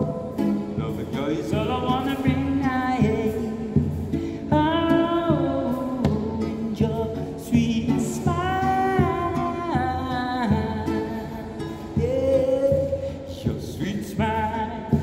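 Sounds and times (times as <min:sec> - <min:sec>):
man singing: 0:00.0 - 0:15.0
strummed classical guitar: 0:00.0 - 0:15.0.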